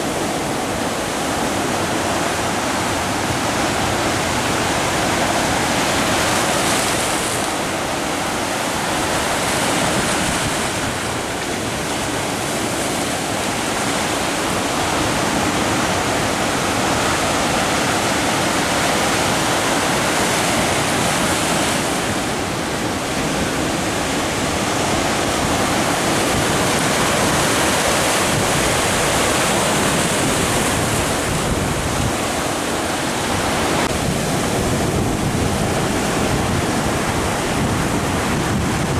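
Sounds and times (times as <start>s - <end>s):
surf breaking over rocks: 0.0s - 38.9s.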